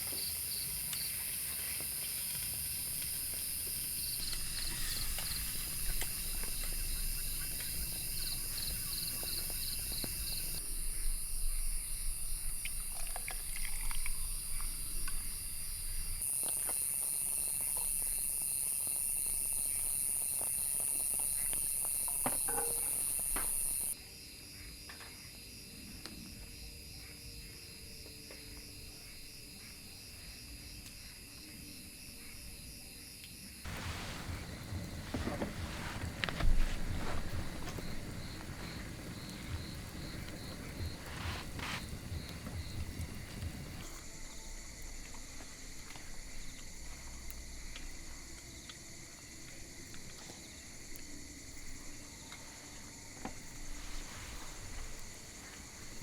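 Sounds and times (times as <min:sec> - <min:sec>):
insects chirping and buzzing: 0:00.0 - 0:56.0.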